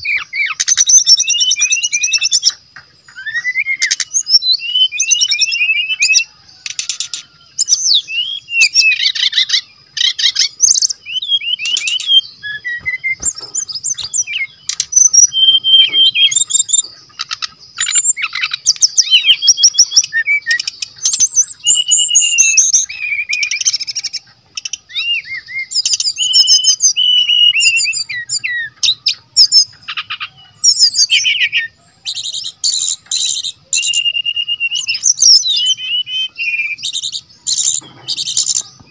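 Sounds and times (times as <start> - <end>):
bird singing whistles and chatter: 0.0 - 38.9.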